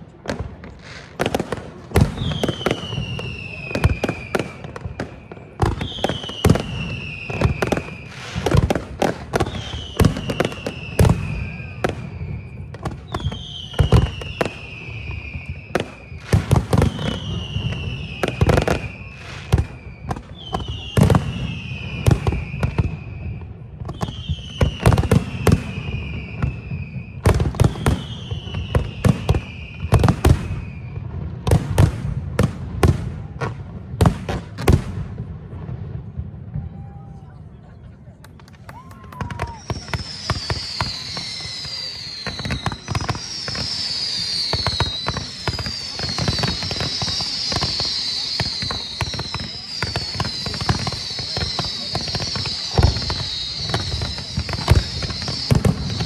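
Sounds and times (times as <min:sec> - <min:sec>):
fireworks bangs: 0:00.0 - 0:56.0
falling firework whistle: 0:00.2 - 0:34.7, 0:36.5 - 0:56.0.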